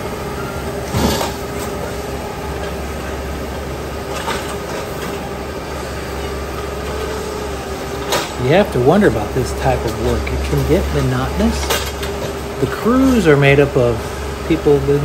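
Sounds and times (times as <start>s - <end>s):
crane engine running: 0.0s - 15.0s.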